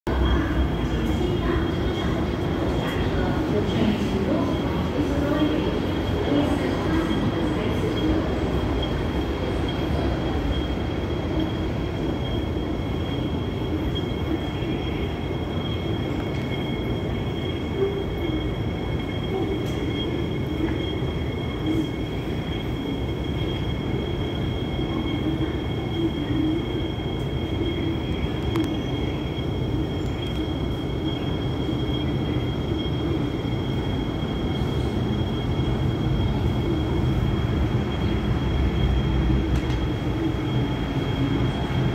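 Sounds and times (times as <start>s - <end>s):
constant high-pitched whine: 0.1s - 41.9s
metro train moving: 0.1s - 41.9s.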